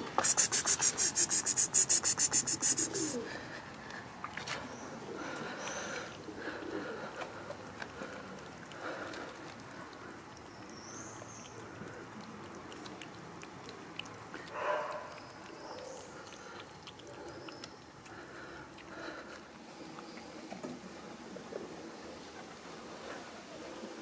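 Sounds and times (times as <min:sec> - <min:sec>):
cats chewing and smacking: 0:00.0 - 0:21.6
faint birds chirping: 0:03.0 - 0:13.1, 0:13.7 - 0:23.9.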